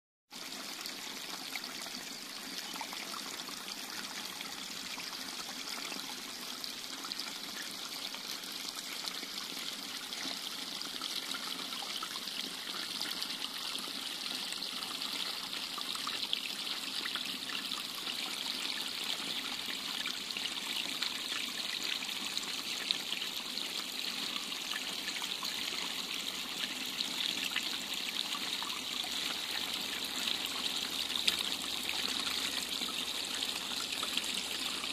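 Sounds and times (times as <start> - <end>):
stream trickling over stones: 0.3 - 34.9.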